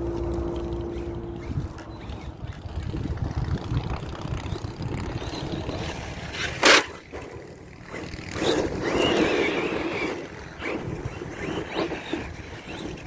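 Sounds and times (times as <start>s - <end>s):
electric motor whining: 0.0s - 13.0s
tyre and drivetrain noise: 0.0s - 13.0s.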